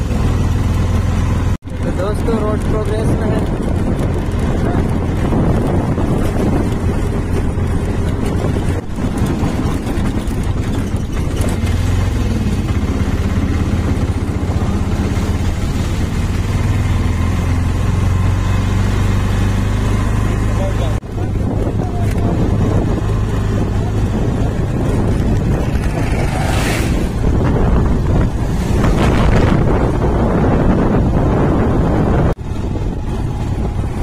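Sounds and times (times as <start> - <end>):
auto-rickshaw engine driving: 0.0 - 34.0
road and wind noise: 0.0 - 34.0.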